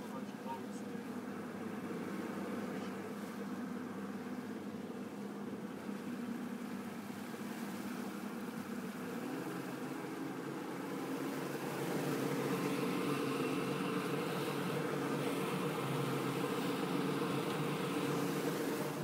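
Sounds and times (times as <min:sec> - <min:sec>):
outboard motors droning: 0:00.0 - 0:19.0.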